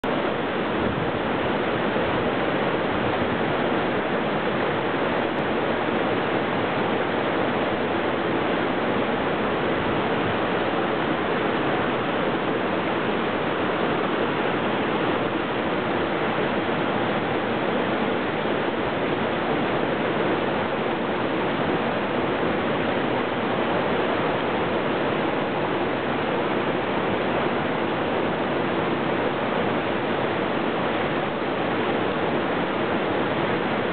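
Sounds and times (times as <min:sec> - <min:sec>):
creek water rushing over cascades: 0:00.0 - 0:33.9.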